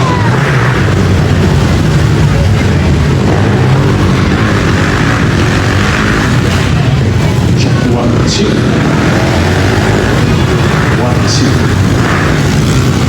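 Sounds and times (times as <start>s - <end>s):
small motorcycle engines droning: 0.0s - 13.0s.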